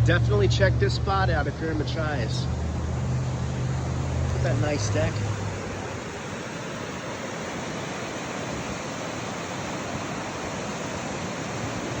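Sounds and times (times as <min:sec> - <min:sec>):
waterfall rushing: 0:01.2 - 0:12.0.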